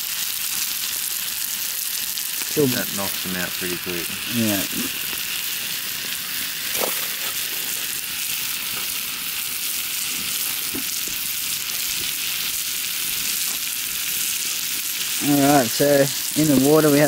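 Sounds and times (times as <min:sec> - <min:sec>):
pot of water boiling: 0:00.0 - 0:17.0.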